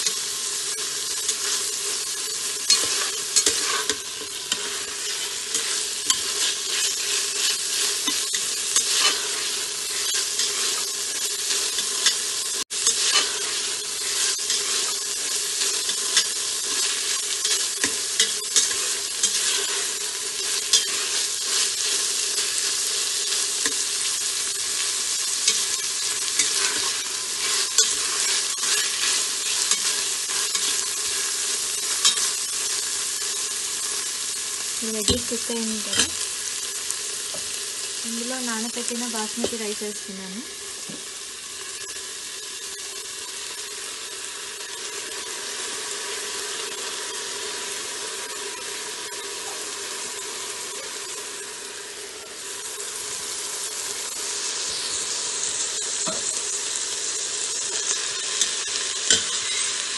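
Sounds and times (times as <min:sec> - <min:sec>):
vegetables and egg sizzling in oil: 0:00.0 - 0:59.9.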